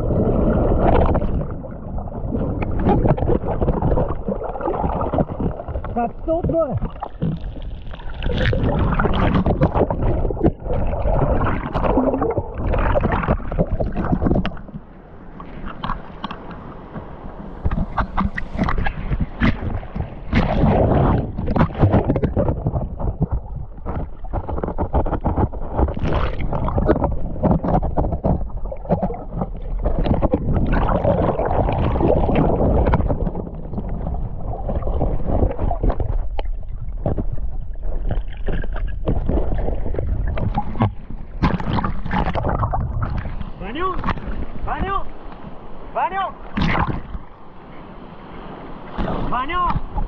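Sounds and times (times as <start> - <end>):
water splashing around kayak: 0.0 - 50.0.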